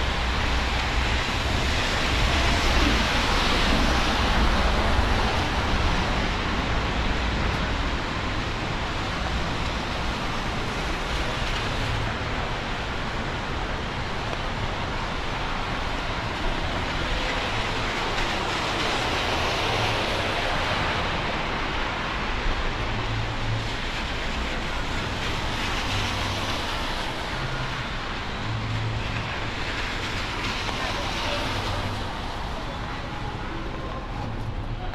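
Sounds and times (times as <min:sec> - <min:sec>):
city traffic: 0:00.0 - 0:34.9
steady rain: 0:00.0 - 0:34.9
tyres hissing on wet road: 0:00.0 - 0:34.9.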